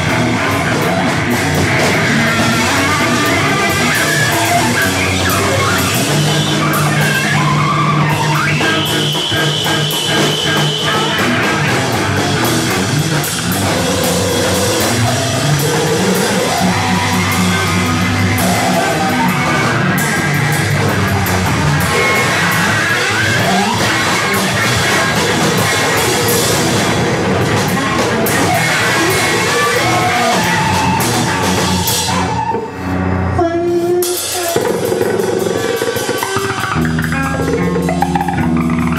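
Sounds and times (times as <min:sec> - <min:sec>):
noise rock band playing live: 0:00.0 - 0:38.9.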